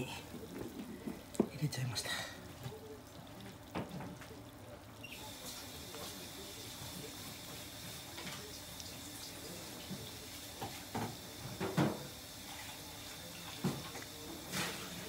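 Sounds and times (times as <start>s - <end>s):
meat deep-frying in oil: 0.1s - 15.0s.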